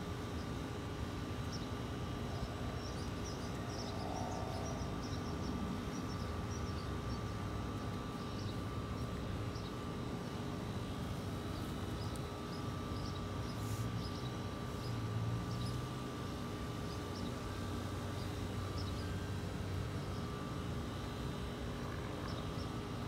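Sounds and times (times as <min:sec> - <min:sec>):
constant hum: 0:00.0 - 0:23.0.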